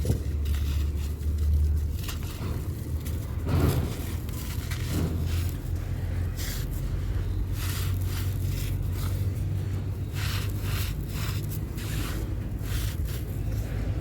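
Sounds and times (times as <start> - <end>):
crumbly block crackling: 0.0 - 14.0
steady low rumble: 0.0 - 14.0.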